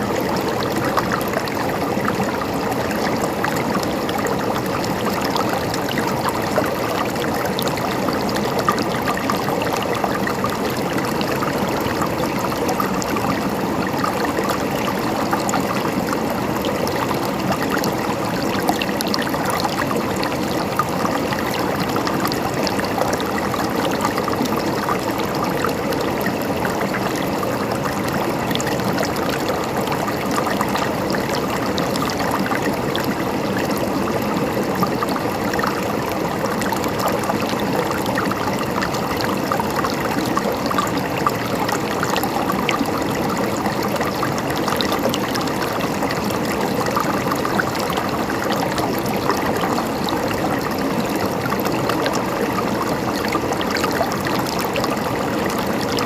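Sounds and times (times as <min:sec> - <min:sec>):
river babbling over rocks: 0:00.0 - 0:56.0.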